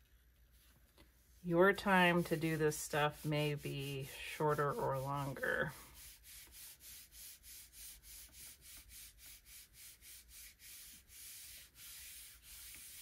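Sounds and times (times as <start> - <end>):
palms rubbing paper: 0.5 - 13.0.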